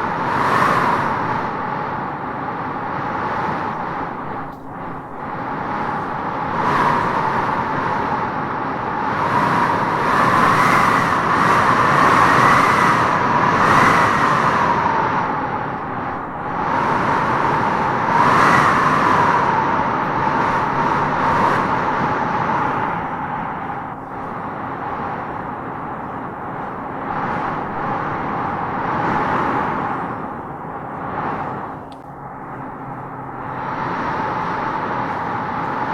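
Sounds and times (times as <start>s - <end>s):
wind howling through trees: 0.0s - 35.9s.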